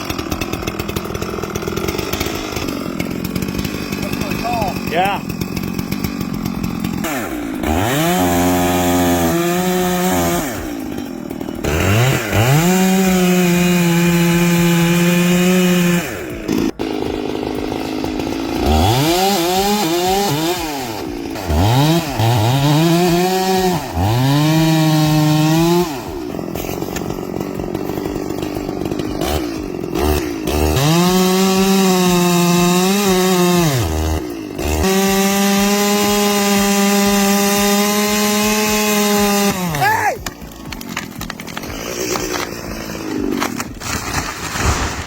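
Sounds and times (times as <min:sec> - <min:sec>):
chainsaw revving: 0:00.0 - 0:45.0.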